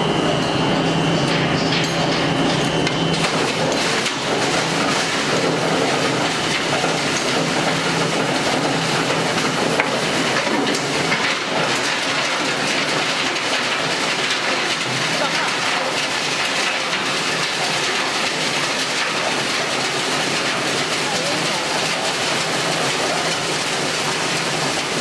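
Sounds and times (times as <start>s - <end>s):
plastic crusher clattering: 1.4s - 25.0s.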